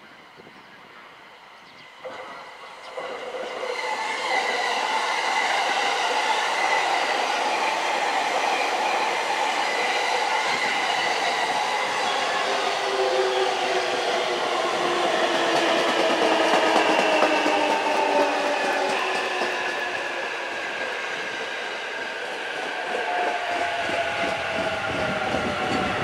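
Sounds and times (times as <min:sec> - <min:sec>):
train braking whine: 0:00.0 - 0:26.0.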